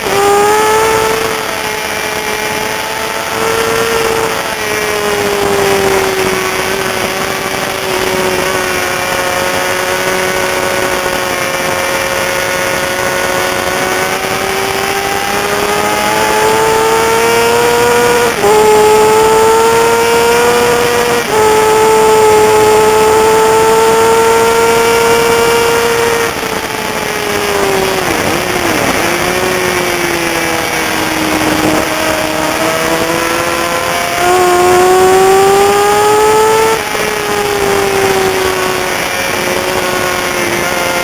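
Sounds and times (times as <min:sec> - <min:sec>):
motorcycle engine at high revs: 0:00.0 - 0:41.0.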